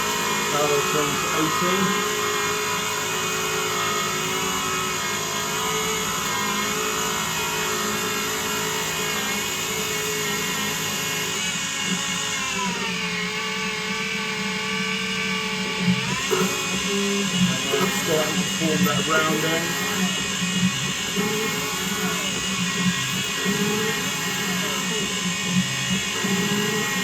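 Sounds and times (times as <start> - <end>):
lathe motor whine with hiss: 0.0 - 27.0.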